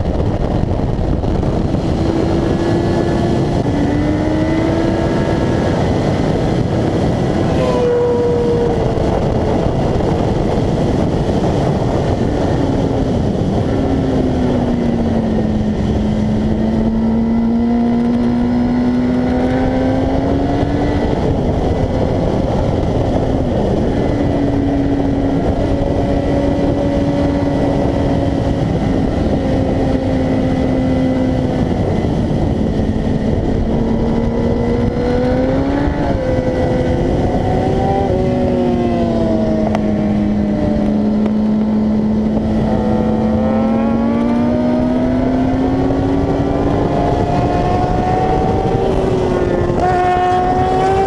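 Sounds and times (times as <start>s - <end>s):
loud wind rush: 0.0s - 51.0s
motorcycle engine revving: 0.0s - 51.0s.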